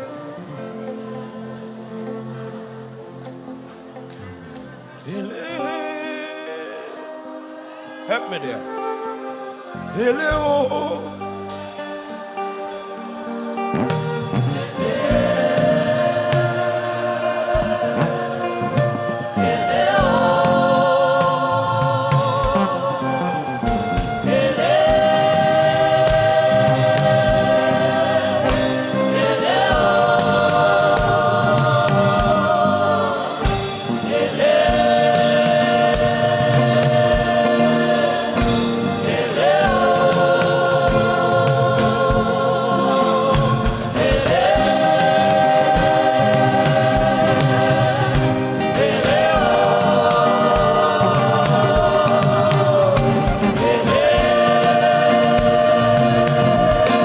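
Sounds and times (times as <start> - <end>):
choir singing held chords: 0.0 - 57.0.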